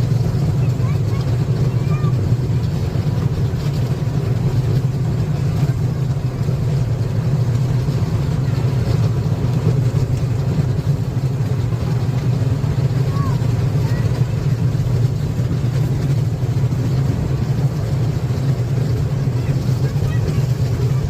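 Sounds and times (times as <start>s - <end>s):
train engine humming: 0.0s - 21.0s.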